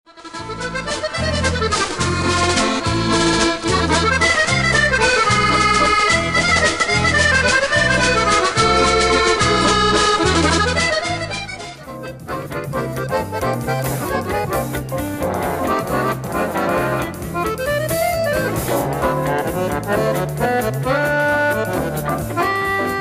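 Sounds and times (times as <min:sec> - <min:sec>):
button accordion melody: 0:00.1 - 0:23.0.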